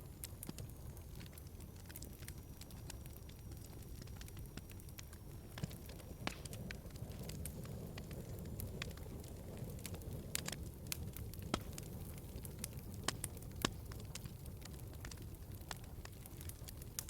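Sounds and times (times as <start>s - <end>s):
fire crackles and pops: 0.0s - 17.0s
low rush of flames: 0.1s - 17.0s.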